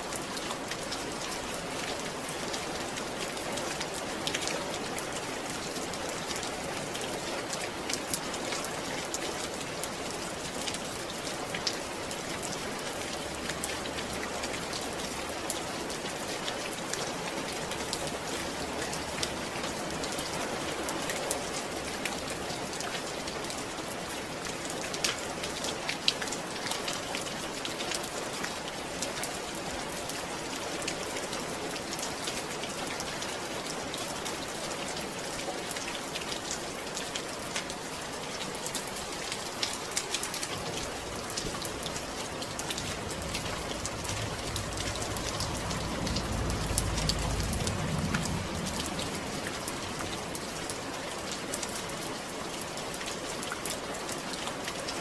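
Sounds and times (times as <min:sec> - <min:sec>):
rain pattering on hard surface: 0:00.0 - 0:55.0.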